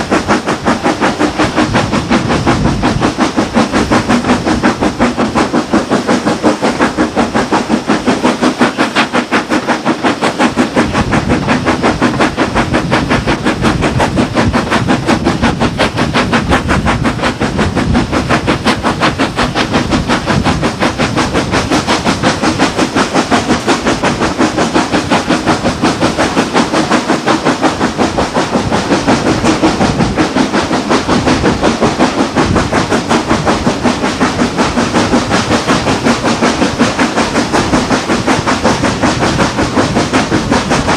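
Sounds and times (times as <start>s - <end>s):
steam locomotive exhaust beats: 0.0s - 40.9s.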